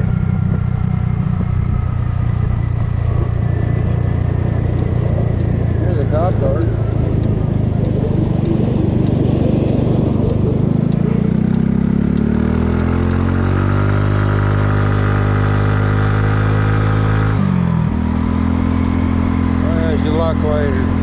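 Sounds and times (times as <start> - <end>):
scooter engine accelerating: 0.0 - 21.0
wind and road noise: 0.0 - 21.0.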